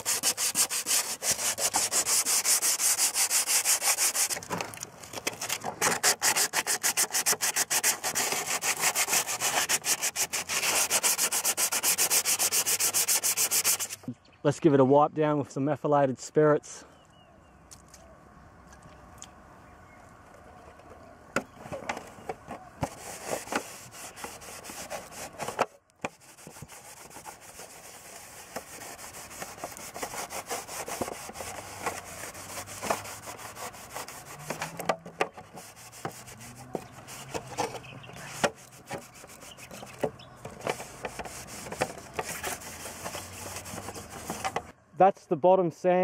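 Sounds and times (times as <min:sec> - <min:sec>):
cloth rubbing plastic: 0:00.0 - 0:14.0, 0:21.6 - 0:44.7.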